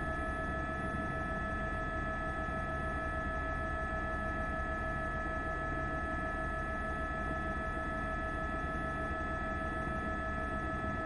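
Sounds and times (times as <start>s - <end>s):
helicopter rotor rumble: 0.0s - 11.0s.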